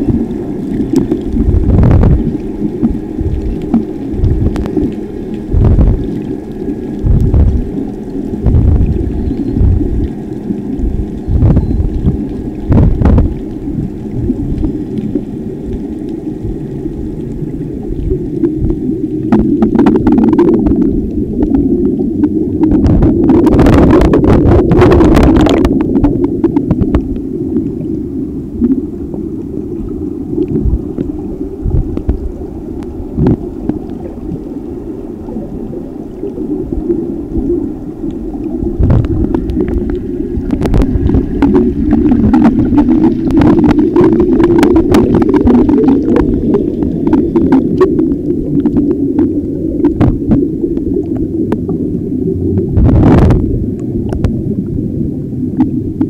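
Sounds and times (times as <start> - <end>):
air bubbles: 0.0 - 56.0
muffled underwater rumble: 0.0 - 56.0.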